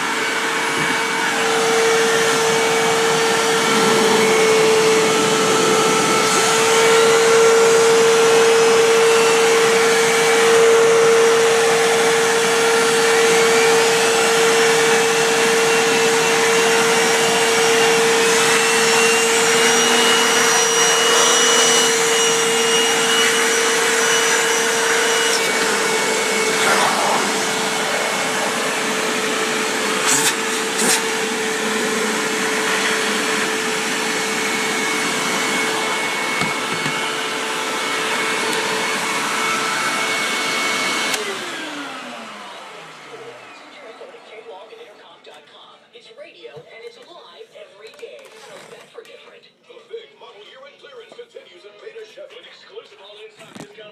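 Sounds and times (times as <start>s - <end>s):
upright vacuum cleaner running: 0.0s - 45.7s.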